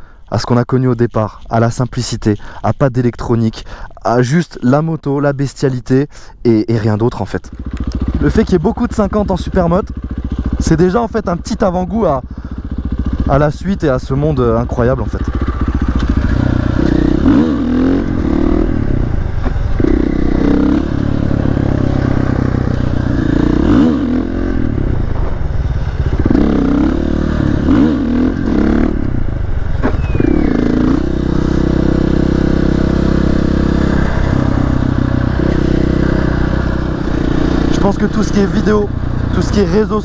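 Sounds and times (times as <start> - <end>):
motorcycle engine revving: 7.4 - 40.0.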